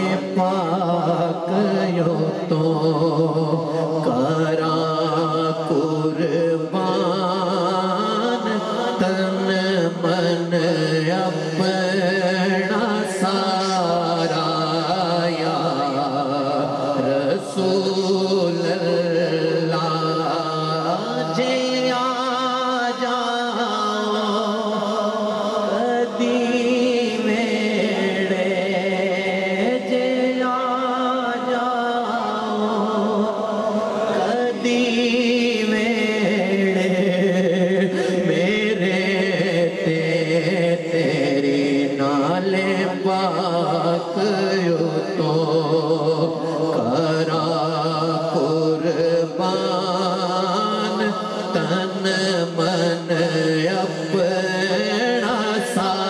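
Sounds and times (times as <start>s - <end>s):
man singing unaccompanied: 0.0s - 56.0s.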